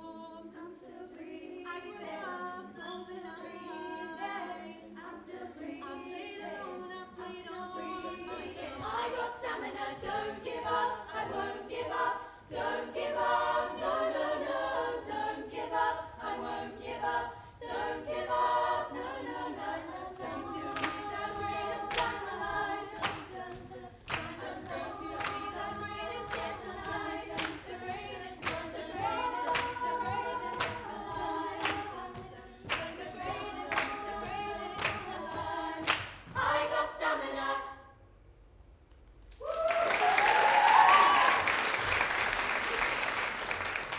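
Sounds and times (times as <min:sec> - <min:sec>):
girls singing in close harmony: 0:00.0 - 0:38.0.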